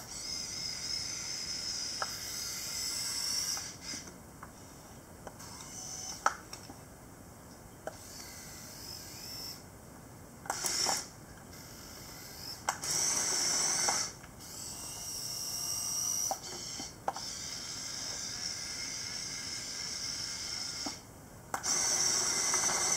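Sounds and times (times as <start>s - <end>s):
small gear motors whirring: 0.0s - 6.7s, 7.8s - 9.7s, 10.5s - 22.9s.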